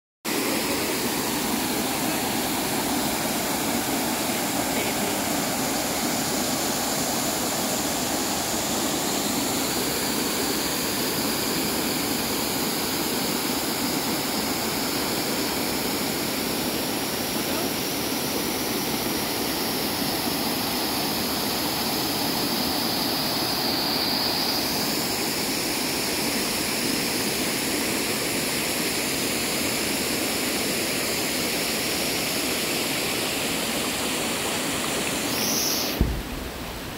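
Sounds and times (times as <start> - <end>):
water rushing over rocks: 0.3 - 36.9.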